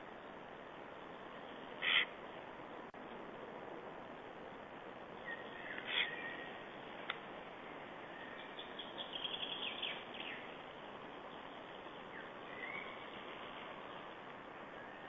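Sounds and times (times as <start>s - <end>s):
songbirds chirping: 0.0s - 2.4s, 5.1s - 15.0s
background hiss: 0.0s - 15.0s.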